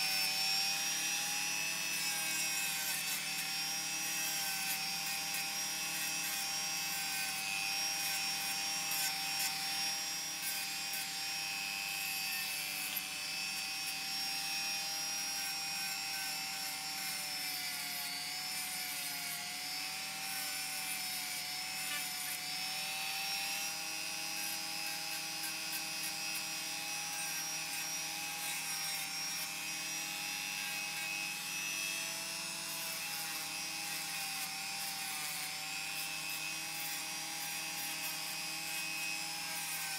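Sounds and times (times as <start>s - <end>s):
rotary tool motor whine: 0.0s - 39.9s.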